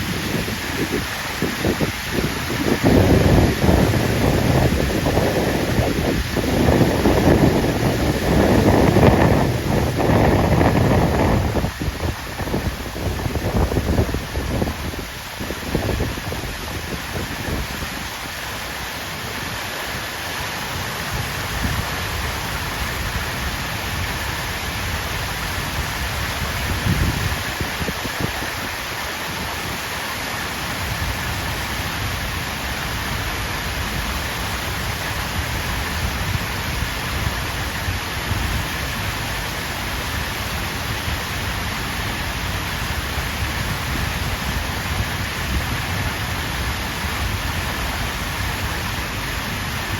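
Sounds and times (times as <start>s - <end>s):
water fountain splashing: 0.0s - 49.9s.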